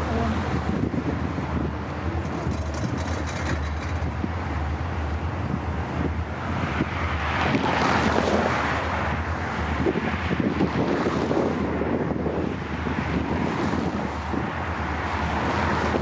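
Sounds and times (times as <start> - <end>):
diesel locomotive engine drone: 0.0 - 16.0
train rushing noise: 0.0 - 16.0.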